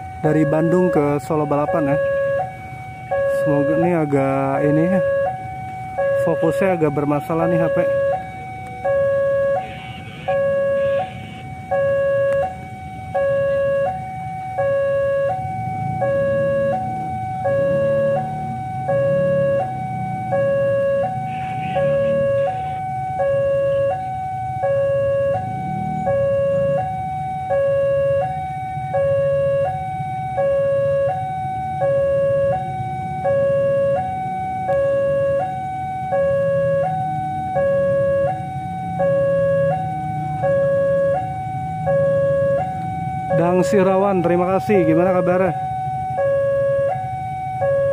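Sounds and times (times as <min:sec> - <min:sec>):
level crossing two-tone alarm: 0:00.0 - 0:47.9.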